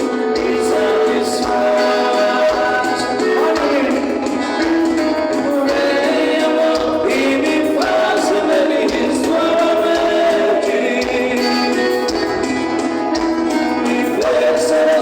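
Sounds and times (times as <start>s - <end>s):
song with singing voices: 0.0s - 15.0s.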